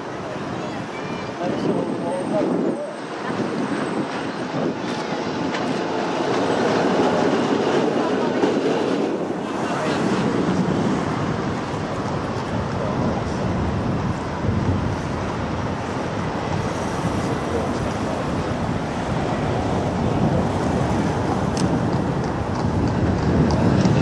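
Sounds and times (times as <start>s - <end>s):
road traffic noise: 0.0s - 24.0s
tram running on rails: 0.0s - 24.0s
wind on microphone: 0.0s - 24.0s.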